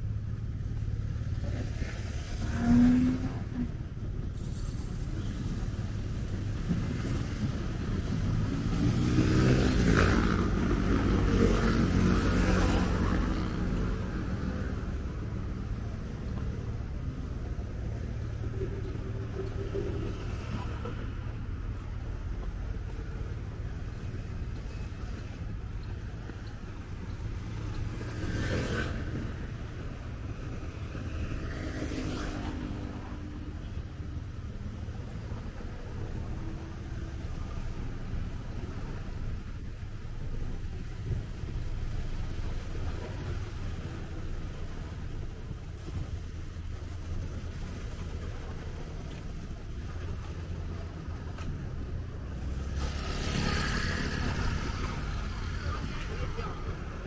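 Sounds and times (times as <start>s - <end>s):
low rumble of traffic: 0.0s - 57.0s
motor scooters passing: 6.9s - 39.3s, 41.8s - 57.0s.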